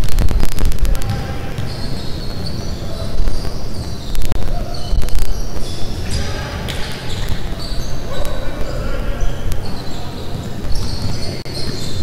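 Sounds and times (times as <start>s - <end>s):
sneakers squeaking on floor: 0.4s - 12.0s.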